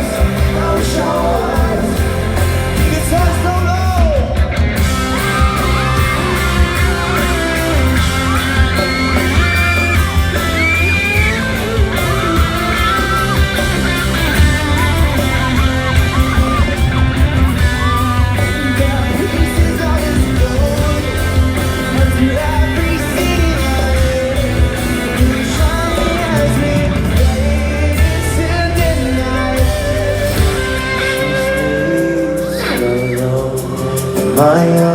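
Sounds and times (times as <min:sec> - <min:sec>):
crowd yelling: 0:00.0 - 0:34.9
people singing: 0:00.0 - 0:34.9
pop-rock band playing live: 0:00.0 - 0:34.9.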